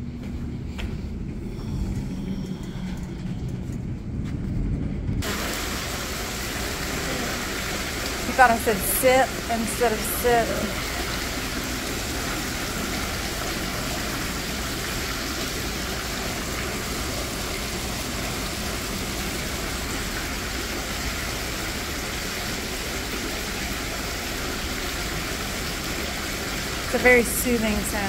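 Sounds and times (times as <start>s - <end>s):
fountain water splashing into pool: 5.2s - 28.0s.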